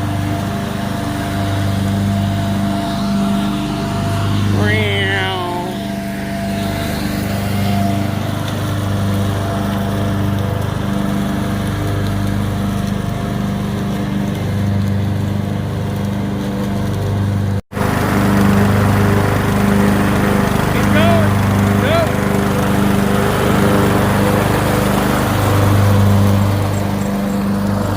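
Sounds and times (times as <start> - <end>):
lawn mower engine running: 0.0 - 27.9.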